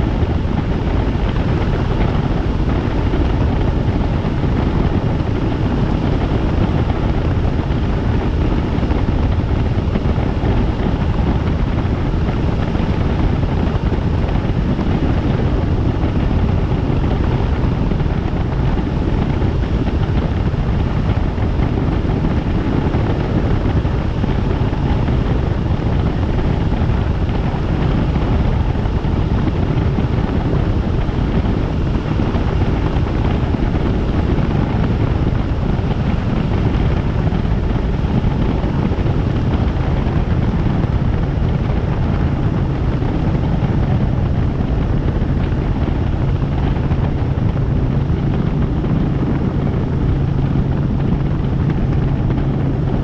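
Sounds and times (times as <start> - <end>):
helicopter rotor and turbine: 0.0 - 53.0.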